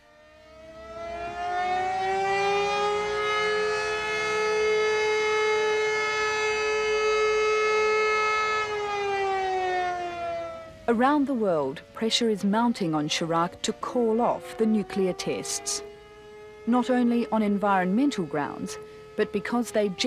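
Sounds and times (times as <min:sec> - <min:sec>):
siren wailing: 0:00.0 - 0:20.0.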